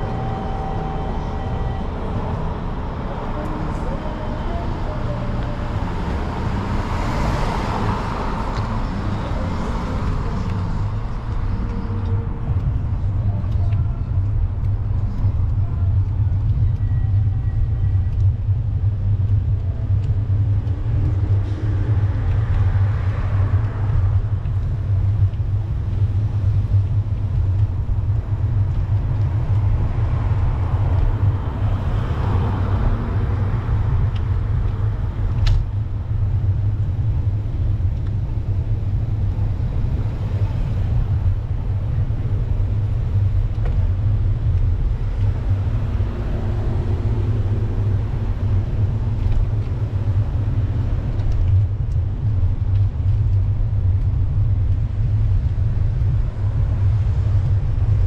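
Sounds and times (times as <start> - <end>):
road traffic passing: 0.0 - 58.0
wind buffeting microphone: 0.0 - 58.0.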